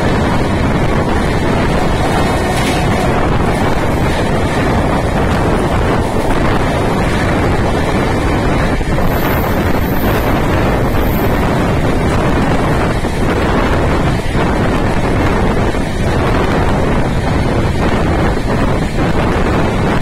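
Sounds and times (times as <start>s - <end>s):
train running noise: 0.0s - 20.0s
wind buffeting microphone: 0.0s - 20.0s.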